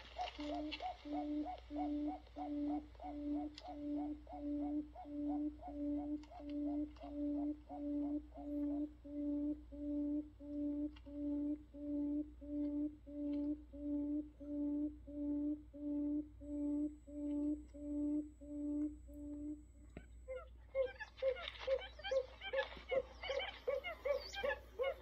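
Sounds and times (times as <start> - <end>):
buttonquail hooting: 0.0 - 25.0.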